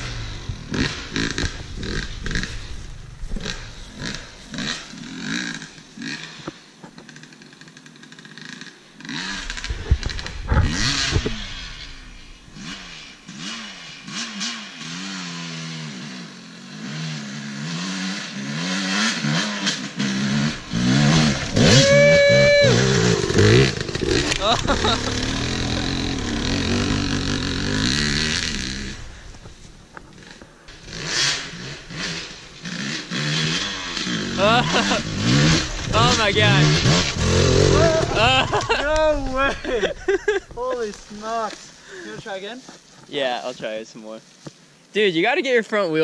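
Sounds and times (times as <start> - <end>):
dirt bike engine revving: 0.0 - 42.1.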